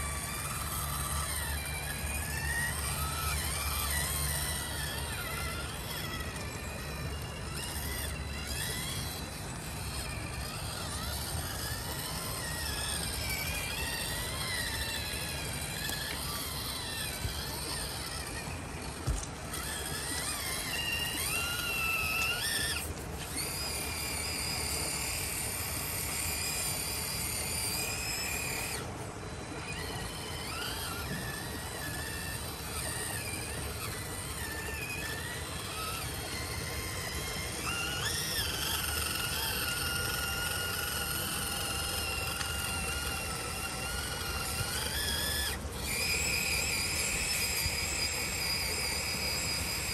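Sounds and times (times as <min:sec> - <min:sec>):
electric motor whining: 0:00.0 - 0:49.9.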